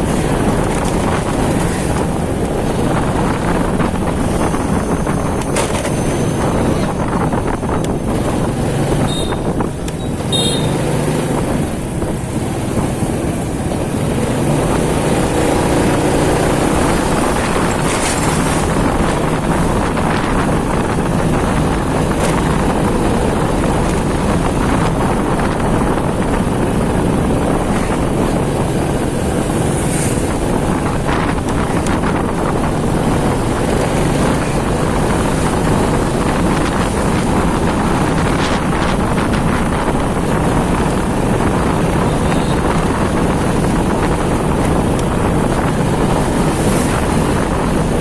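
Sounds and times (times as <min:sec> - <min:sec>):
motorcycle engine hum: 0:00.0 - 0:48.0
wind noise on microphone: 0:00.0 - 0:48.0.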